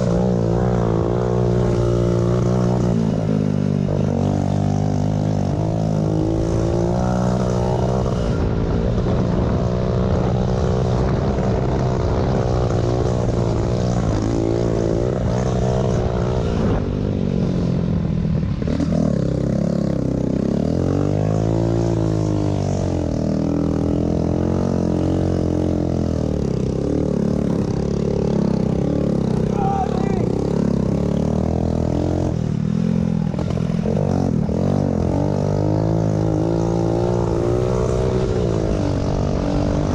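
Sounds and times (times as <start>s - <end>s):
pit bike engines racing: 0.0s - 39.9s.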